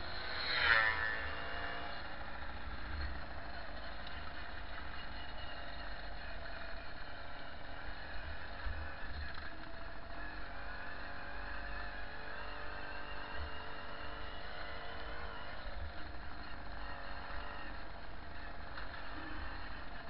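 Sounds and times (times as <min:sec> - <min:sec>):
moped engine running: 0:00.0 - 0:20.0.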